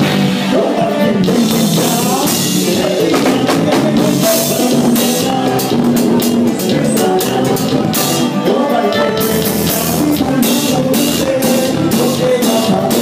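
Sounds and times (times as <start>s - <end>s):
drum kit beat: 0.0s - 13.0s
electric guitar: 0.0s - 13.0s
person singing: 0.0s - 13.0s.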